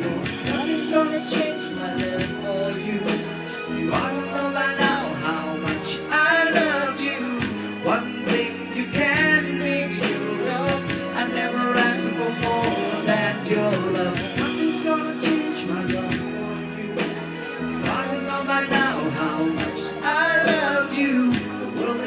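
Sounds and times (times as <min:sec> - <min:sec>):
live band music: 0:00.0 - 0:22.0
person singing: 0:00.0 - 0:22.0.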